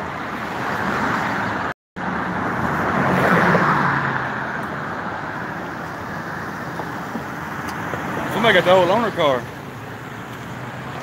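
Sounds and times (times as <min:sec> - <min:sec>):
background traffic noise: 0:00.0 - 0:11.0
car passing: 0:00.0 - 0:11.0.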